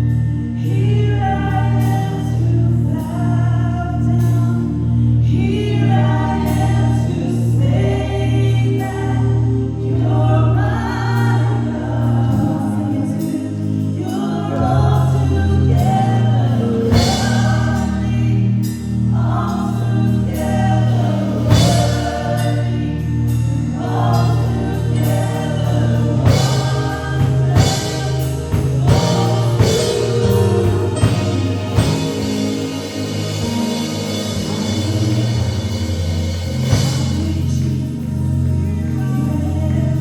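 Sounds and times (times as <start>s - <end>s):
gospel band playing: 0.0s - 40.0s
voices singing: 0.0s - 40.0s.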